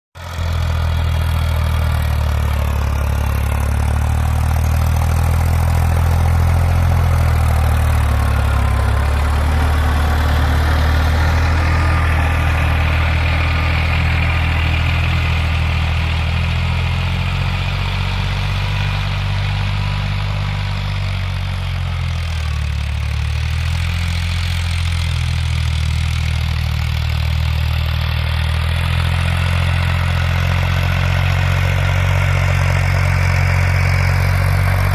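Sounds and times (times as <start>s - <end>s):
tractor diesel engine droning: 0.2s - 34.9s.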